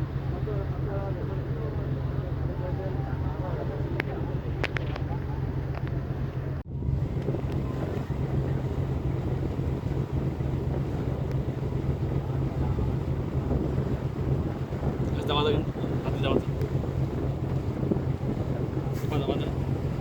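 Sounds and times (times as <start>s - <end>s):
ferry engine droning: 0.0s - 20.0s
wind buffeting microphone: 0.0s - 20.0s.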